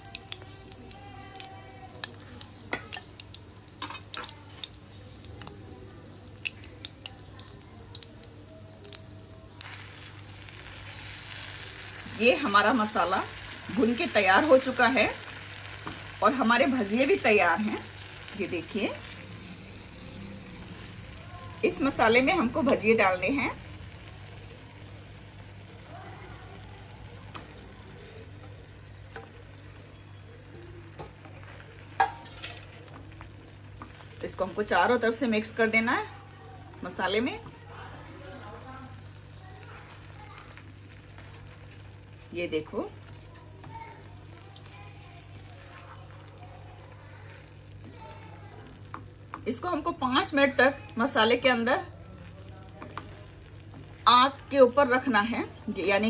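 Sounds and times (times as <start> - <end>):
batter deep-frying in hot oil: 0.0 - 56.0
crackling pops of frying: 0.0 - 56.0
gravy sizzling in a pan: 0.0 - 56.0.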